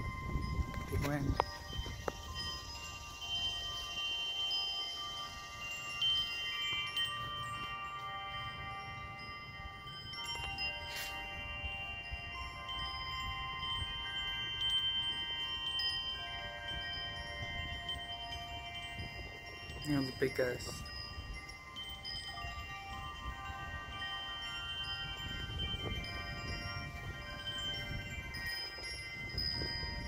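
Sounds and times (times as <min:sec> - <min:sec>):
metal wind chimes ringing: 0:00.0 - 0:30.0.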